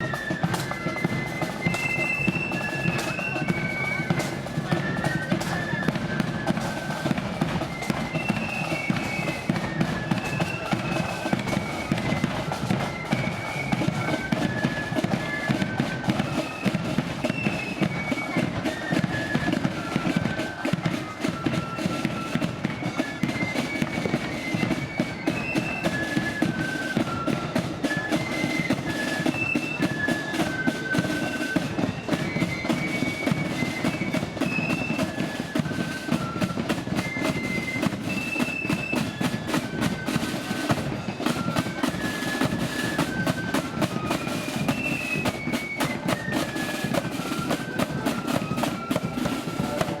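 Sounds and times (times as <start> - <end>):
flute melody: 0.0 - 50.0
snare and bass drums: 0.0 - 50.0.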